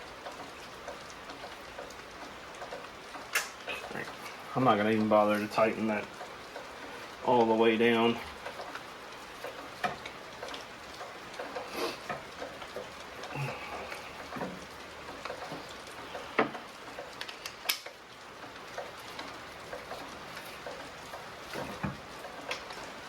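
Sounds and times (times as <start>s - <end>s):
rain hiss: 0.0s - 23.0s
small clicks and knocks: 0.2s - 4.4s, 8.4s - 23.0s.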